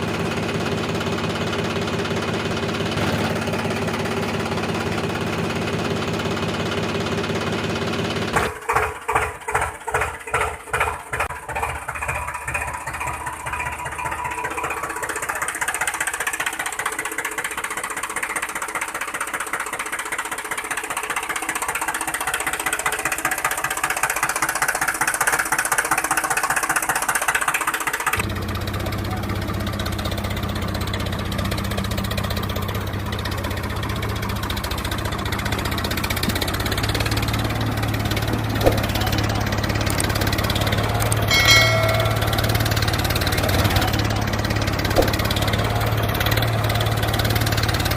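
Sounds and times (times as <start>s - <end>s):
engine running with pulsing beat: 0.0s - 47.9s.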